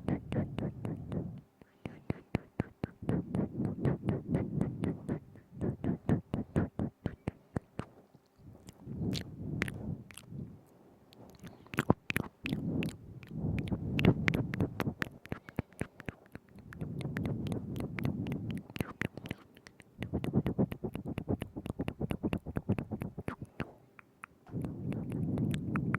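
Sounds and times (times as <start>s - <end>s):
wet tongue and lip clicks: 0.0s - 10.5s, 11.1s - 25.9s
soft wet mouth noise: 0.0s - 25.9s.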